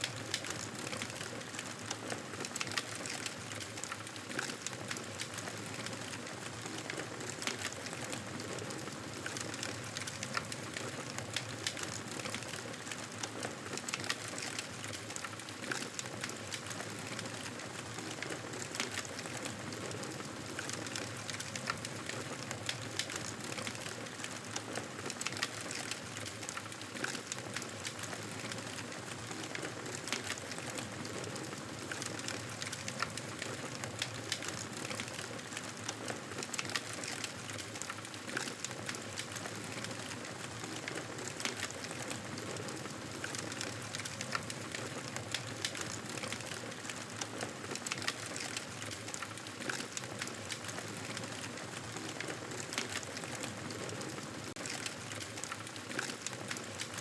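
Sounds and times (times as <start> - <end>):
wood crackling and popping: 0.0 - 57.0.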